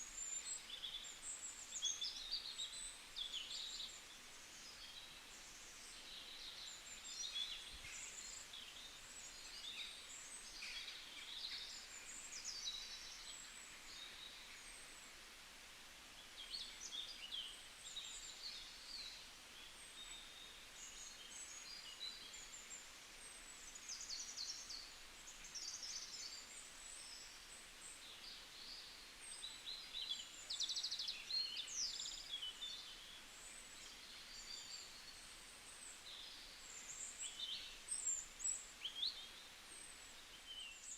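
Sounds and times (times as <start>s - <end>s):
small birds chirping and singing: 0.0s - 15.1s, 16.2s - 40.9s
faint outdoor background hiss: 0.0s - 40.9s.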